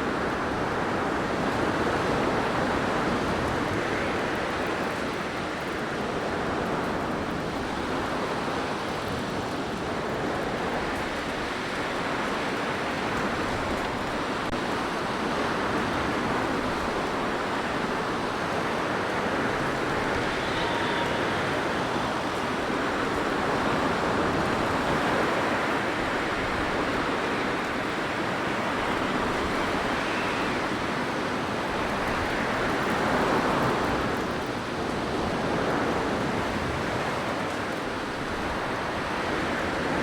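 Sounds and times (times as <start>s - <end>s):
blizzard wind blowing: 0.0s - 40.0s.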